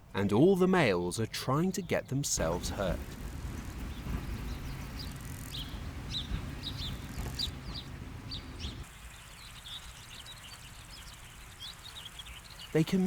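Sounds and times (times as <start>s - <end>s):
low rumble of wind: 0.0s - 12.8s
small birds chirping: 1.5s - 13.0s.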